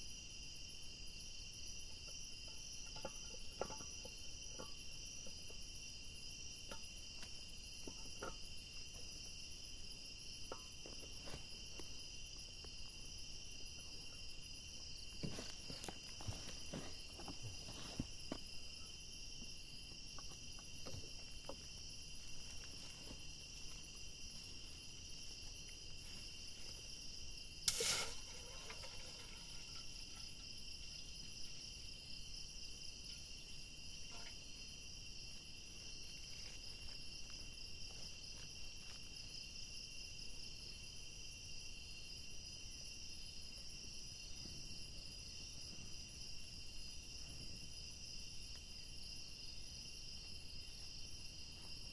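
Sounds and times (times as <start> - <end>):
crickets trilling: 0.0 - 51.9.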